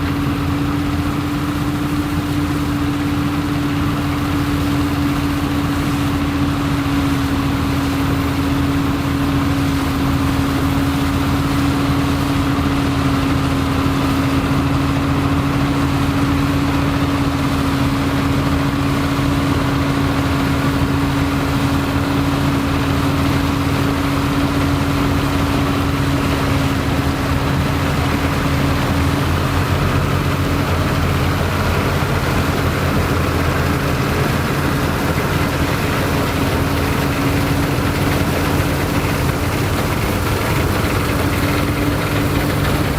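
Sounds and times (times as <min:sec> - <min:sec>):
combine harvester engine drone: 0:00.0 - 0:42.9.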